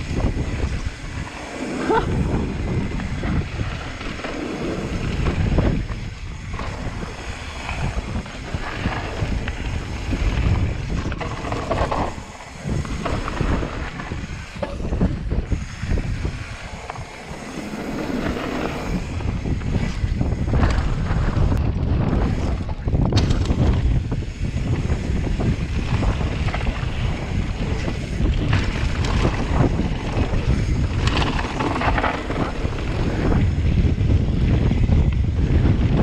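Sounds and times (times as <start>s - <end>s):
bike rattling: 0.0s - 36.0s
tyres rumbling on gravel: 0.0s - 36.0s
wind buffeting microphone: 0.0s - 36.0s.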